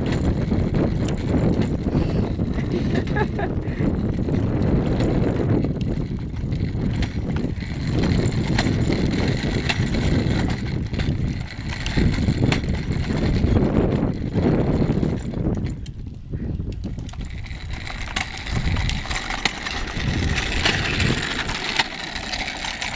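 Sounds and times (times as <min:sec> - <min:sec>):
clicks and rattles: 0:00.0 - 0:16.1, 0:16.7 - 0:22.9
plastic wheels rolling on concrete: 0:00.0 - 0:22.9.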